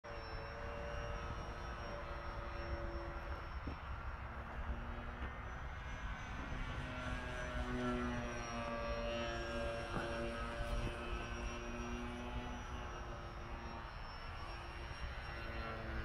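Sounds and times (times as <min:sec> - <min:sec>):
model airplane propeller buzzing: 0:00.1 - 0:16.0.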